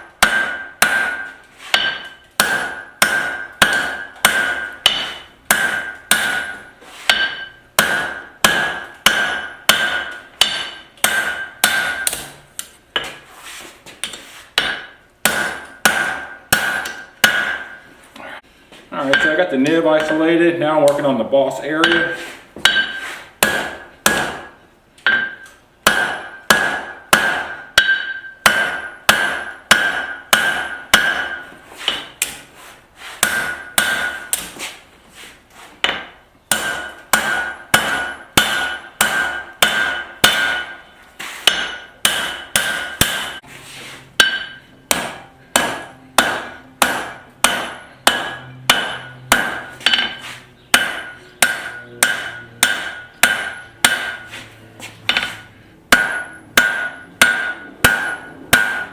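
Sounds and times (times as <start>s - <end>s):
hammer striking hot steel on anvil: 0.0s - 13.2s, 14.0s - 17.9s, 19.0s - 32.5s, 33.2s - 34.6s, 35.8s - 43.5s, 44.2s - 54.4s, 55.1s - 58.9s.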